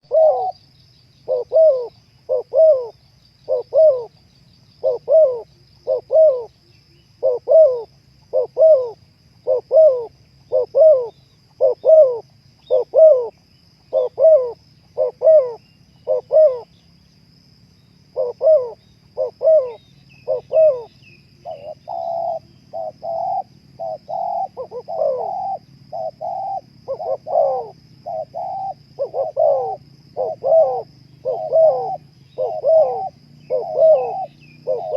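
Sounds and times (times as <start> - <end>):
dove cooing: 0.0 - 0.6, 1.2 - 4.2, 4.8 - 6.5, 7.2 - 16.8, 18.1 - 34.9.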